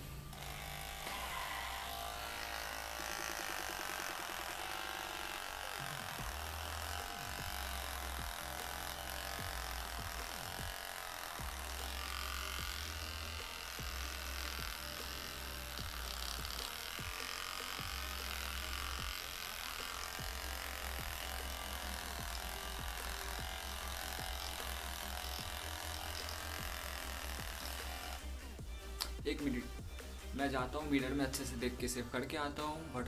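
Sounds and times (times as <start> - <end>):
electric beard trimmer running: 0.0 - 33.0.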